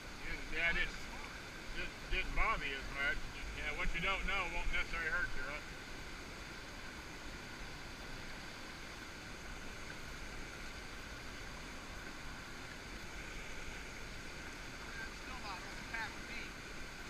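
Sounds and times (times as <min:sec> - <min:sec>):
muffled river water rushing: 0:00.0 - 0:17.0.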